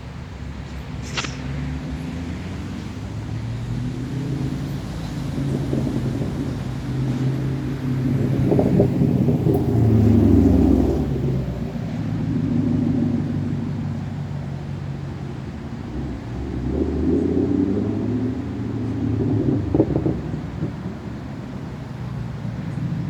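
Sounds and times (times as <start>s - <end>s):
car exhaust deep rumble: 0.0s - 23.0s.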